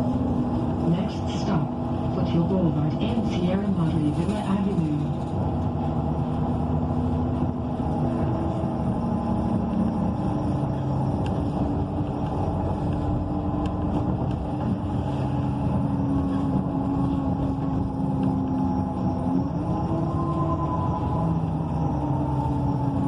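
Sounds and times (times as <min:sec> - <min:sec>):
bus engine droning: 0:00.0 - 0:23.0
road rumble: 0:00.0 - 0:23.0.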